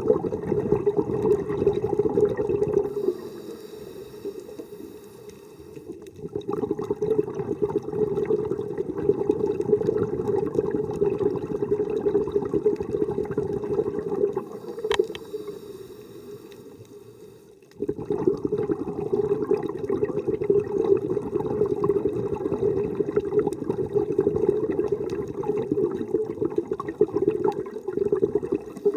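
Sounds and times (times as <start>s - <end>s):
muffled underwater bubbling: 0.0s - 28.9s.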